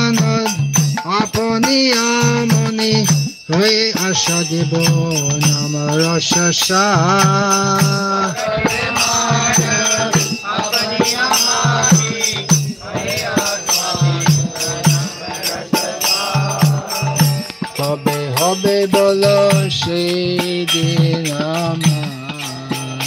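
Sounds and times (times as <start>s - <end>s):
hand drum beat: 0.0s - 23.0s
jingling hand cymbals: 0.0s - 23.0s
group singing devotional song: 3.6s - 23.0s.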